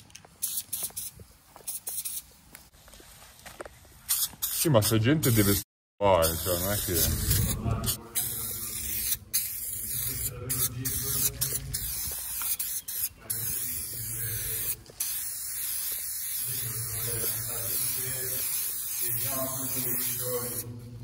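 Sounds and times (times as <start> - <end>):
spray paint can hissing: 0.0 - 2.4, 4.1 - 5.6, 6.2 - 20.7.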